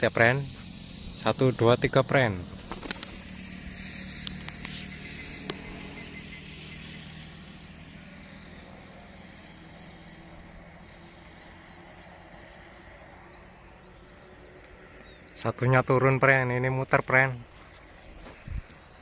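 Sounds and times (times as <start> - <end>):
distant vehicle engine hum: 0.0 - 19.0
open-air background noise: 0.0 - 19.0.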